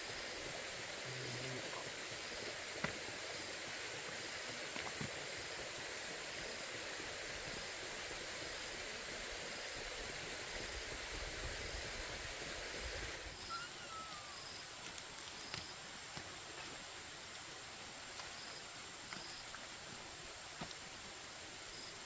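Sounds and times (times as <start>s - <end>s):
rushing hiss: 0.0s - 19.0s.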